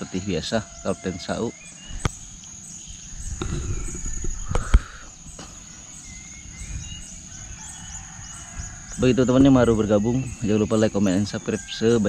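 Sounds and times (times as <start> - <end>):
birds chirping: 0.0 - 12.0
high-pitched insect buzz: 0.1 - 11.0.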